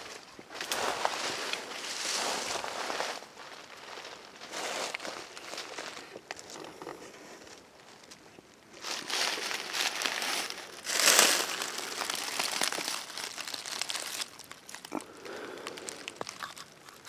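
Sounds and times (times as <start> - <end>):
dry leaves rustling and crunching: 0.0 - 6.9, 7.8 - 17.0.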